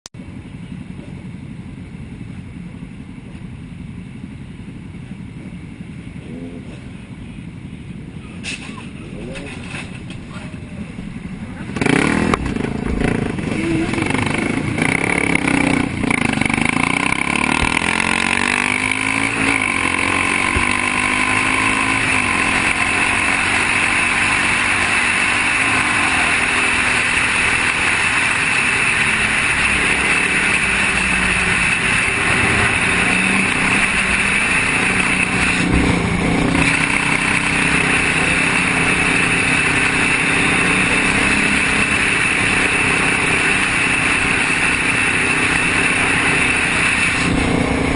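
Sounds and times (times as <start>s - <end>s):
traffic noise: 0.1s - 47.9s
vehicle engines passing: 0.2s - 47.9s.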